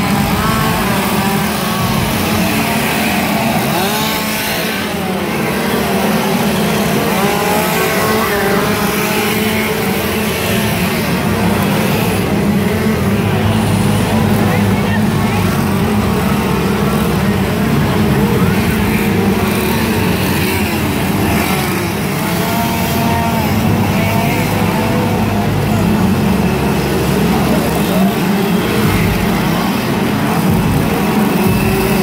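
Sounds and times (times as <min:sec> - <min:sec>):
chainsaw engines running: 0:00.0 - 0:32.0
crowd voices: 0:00.0 - 0:32.0.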